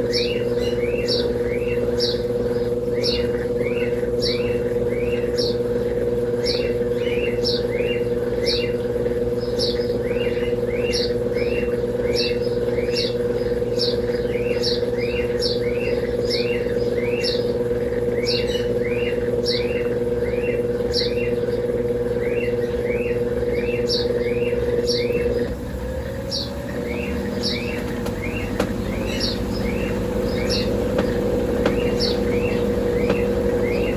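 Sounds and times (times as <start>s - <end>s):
small bird chirping: 0.0s - 25.5s, 26.3s - 33.9s
washing machine spinning: 0.0s - 33.9s.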